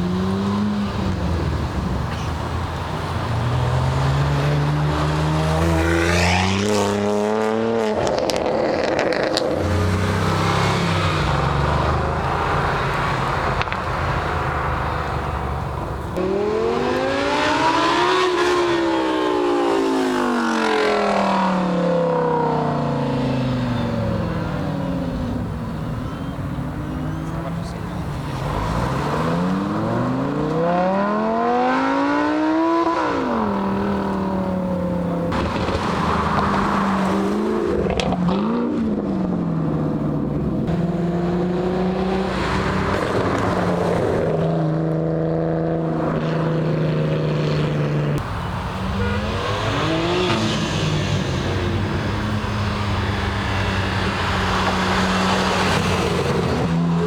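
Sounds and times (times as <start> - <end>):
car engines accelerating: 0.0 - 57.0
engine revving: 3.3 - 15.3, 16.0 - 25.4, 26.1 - 57.0.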